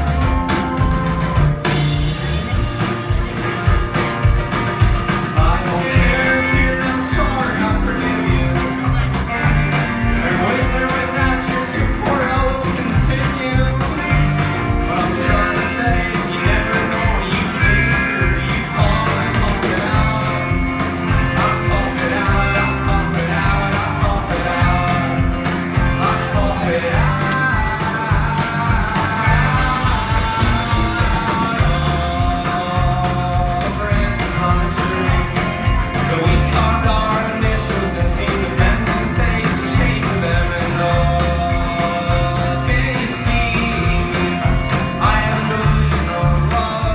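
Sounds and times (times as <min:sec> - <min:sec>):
drum beat: 0:00.0 - 0:46.9
rock band playing live: 0:00.0 - 0:46.9
person singing: 0:04.8 - 0:46.9.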